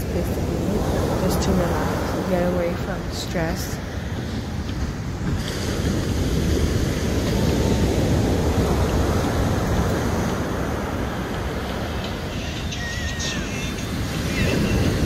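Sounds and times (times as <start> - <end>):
sea waves breaking on a beach: 0.0 - 15.0
wind rumbling on microphone: 0.0 - 15.0.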